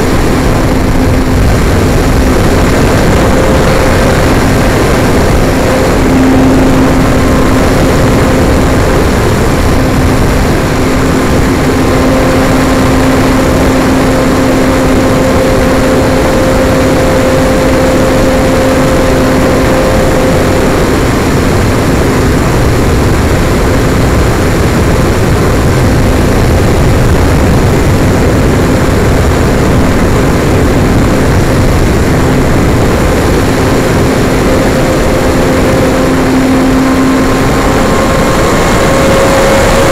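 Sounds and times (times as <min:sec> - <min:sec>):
model airplane motor hum: 0:00.0 - 0:39.9
rushing air: 0:00.0 - 0:39.9.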